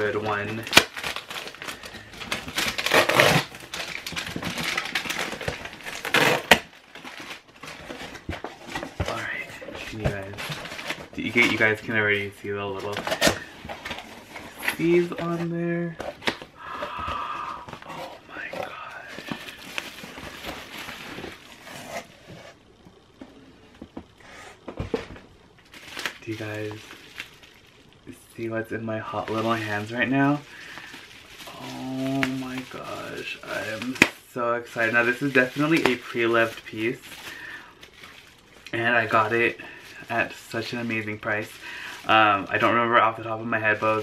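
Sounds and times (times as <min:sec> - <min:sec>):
cardboard crinkling and scraping: 0:00.0 - 0:16.5, 0:17.7 - 0:22.6, 0:25.8 - 0:27.3, 0:29.1 - 0:34.1, 0:34.8 - 0:44.0.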